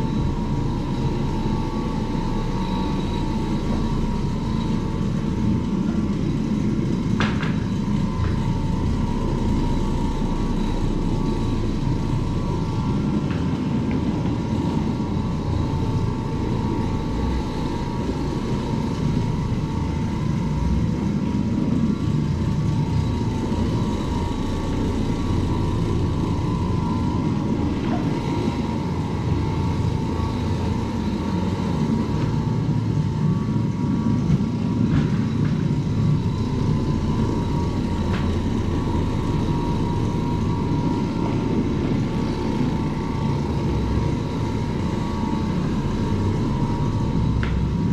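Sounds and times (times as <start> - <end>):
carpet cleaner motor whine: 0.0 - 47.9.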